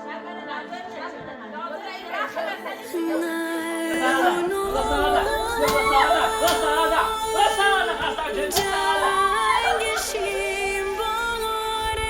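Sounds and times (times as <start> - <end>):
person singing ornamented melody: 0.0 - 12.0.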